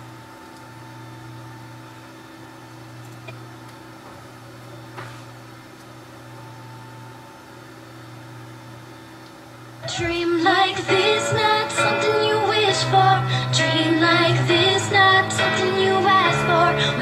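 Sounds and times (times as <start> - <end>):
faint steady whine: 0.0 - 17.0
low electrical hum: 0.0 - 17.0.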